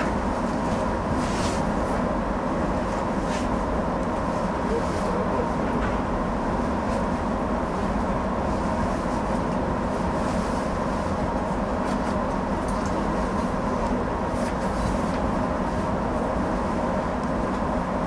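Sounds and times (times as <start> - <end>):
train equipment humming: 0.0 - 18.0.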